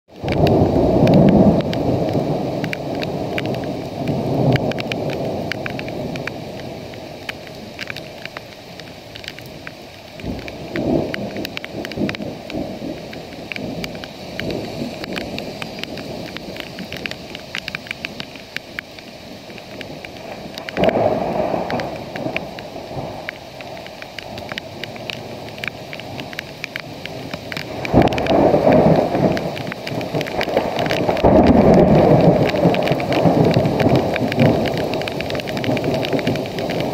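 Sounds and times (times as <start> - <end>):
low thunder rumbles: 0.1 - 36.9
raindrops ticking: 0.1 - 36.9
steady rain falling: 0.1 - 36.9.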